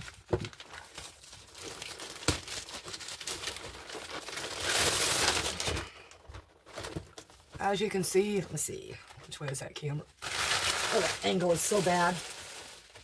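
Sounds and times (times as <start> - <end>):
plastic mailer bag crinkling: 0.0 - 8.2, 10.2 - 13.0.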